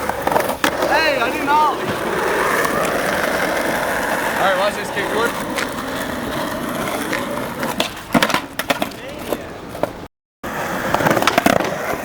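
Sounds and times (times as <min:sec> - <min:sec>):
skateboard clacks on ground: 0:00.0 - 0:04.4, 0:05.0 - 0:10.1, 0:10.8 - 0:12.0
skateboard rolling on concrete: 0:00.0 - 0:12.0.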